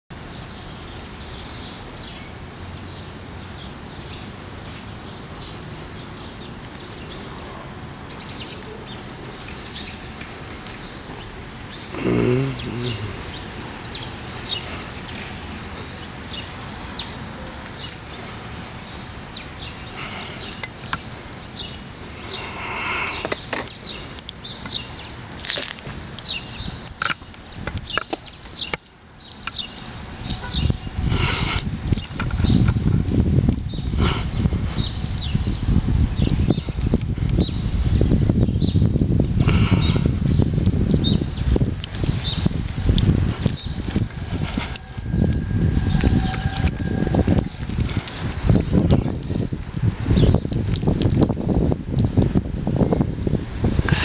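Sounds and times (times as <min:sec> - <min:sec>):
birds chirping: 0:00.1 - 0:52.0.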